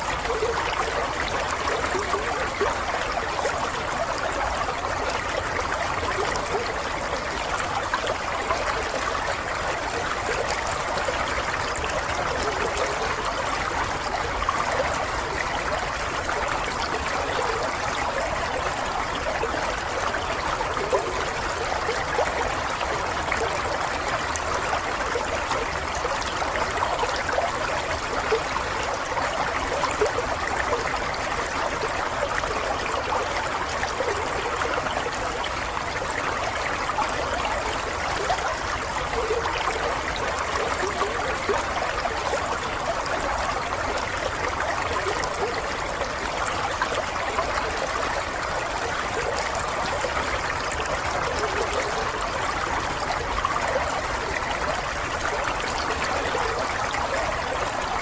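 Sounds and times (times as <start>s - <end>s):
babbling stream: 0.0s - 58.0s.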